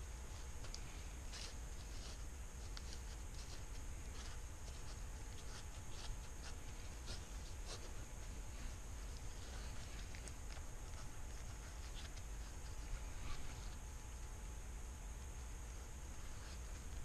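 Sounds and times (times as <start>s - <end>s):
gloved hands rustling cloth: 0.0s - 17.0s
steady low hum: 0.0s - 17.0s.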